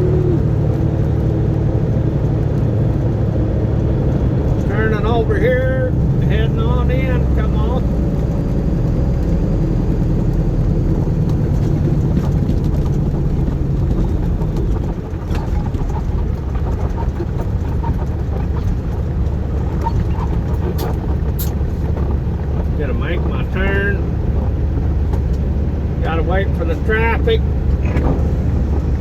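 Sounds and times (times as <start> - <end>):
truck diesel engine rumble: 0.0 - 29.0.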